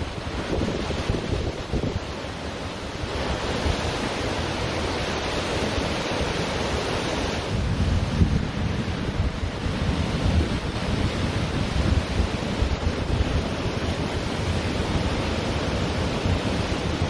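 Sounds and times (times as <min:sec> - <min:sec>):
wind buffeting microphone: 0:00.0 - 0:05.0, 0:07.0 - 0:17.0
ocean surf on beach: 0:00.0 - 0:17.0.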